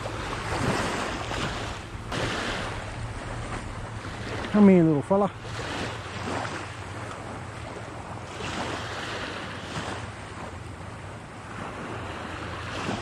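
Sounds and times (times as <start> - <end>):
waves washing against rocks: 0.0 - 10.5, 11.6 - 13.0
wind buffeting microphone: 0.0 - 13.0.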